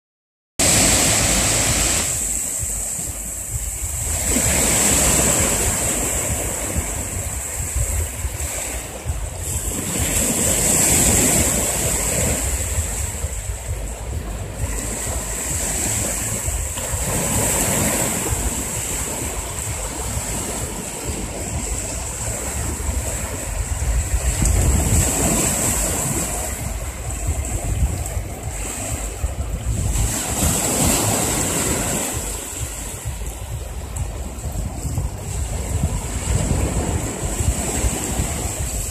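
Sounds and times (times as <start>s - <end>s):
small waves washing up shore: 0.6s - 38.9s
wind buffeting microphone: 0.6s - 38.9s.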